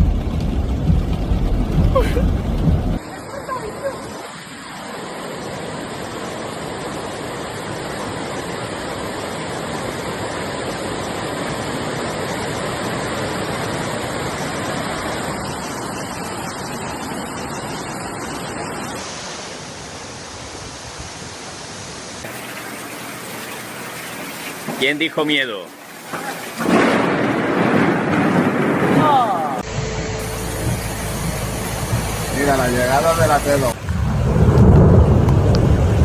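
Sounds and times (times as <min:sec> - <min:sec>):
floodwater rushing: 0:00.0 - 0:36.0.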